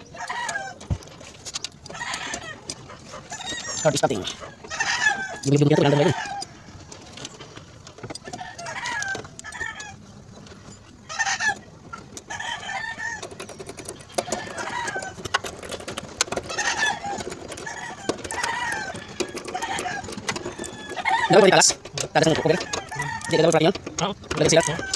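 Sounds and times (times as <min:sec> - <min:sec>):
chickens clucking: 0:00.0 - 0:07.6, 0:08.2 - 0:24.9.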